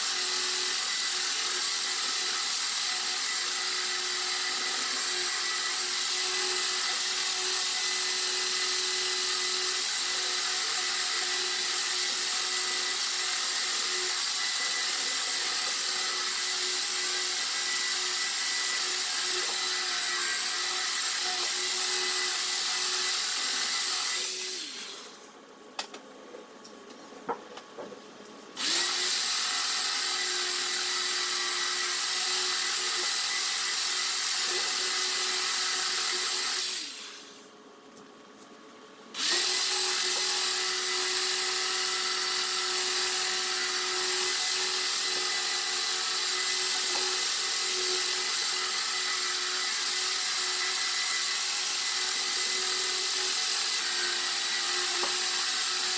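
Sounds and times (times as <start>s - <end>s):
power sander running: 0.0s - 25.2s, 28.6s - 37.4s, 39.2s - 55.9s.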